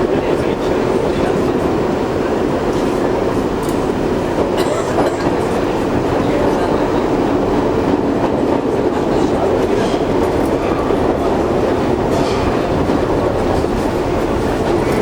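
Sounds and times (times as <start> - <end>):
subway wheels on rails: 0.0 - 15.0.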